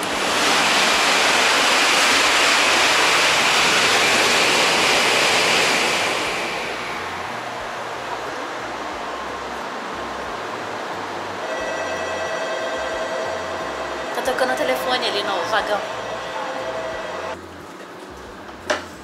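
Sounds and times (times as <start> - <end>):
train rushing past: 0.0 - 17.4
train carriage hum: 0.0 - 19.0.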